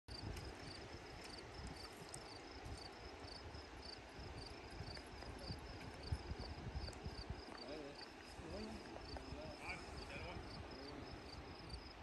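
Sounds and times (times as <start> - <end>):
insect chirping: 0.1 - 12.0
wind rumble on microphone: 0.1 - 12.0.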